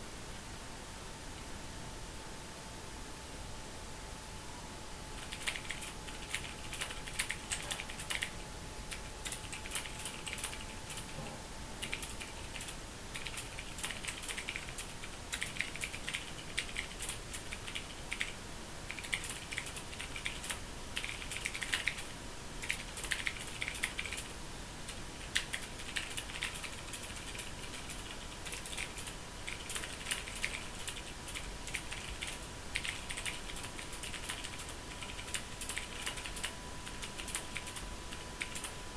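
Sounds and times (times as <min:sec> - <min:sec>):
mechanical keyboard typing: 0:05.2 - 0:11.2, 0:11.8 - 0:24.3, 0:24.9 - 0:38.7.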